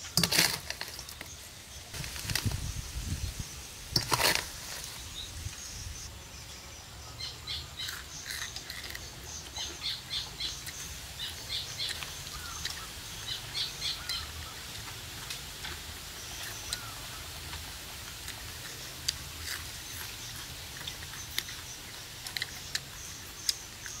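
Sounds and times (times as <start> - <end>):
small birds chirping: 0.0 - 15.4, 16.0 - 24.0.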